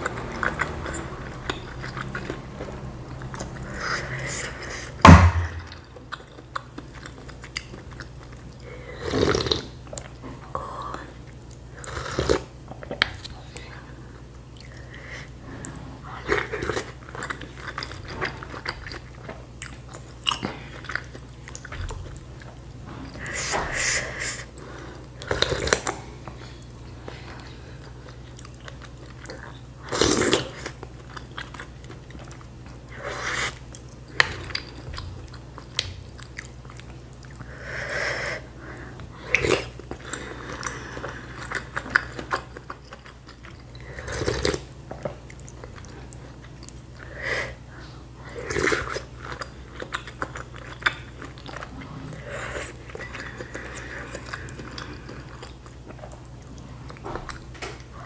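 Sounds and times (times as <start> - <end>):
close chewing: 0.0 - 5.0, 5.6 - 13.7, 15.6 - 37.6, 38.9 - 58.0.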